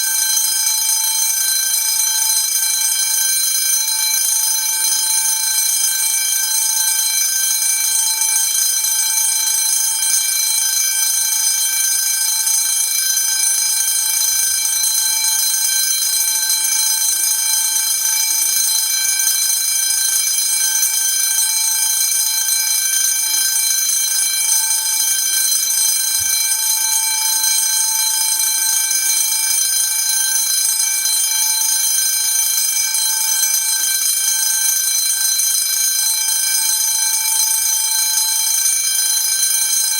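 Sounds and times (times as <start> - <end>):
fire alarm bell ringing: 0.0 - 39.9.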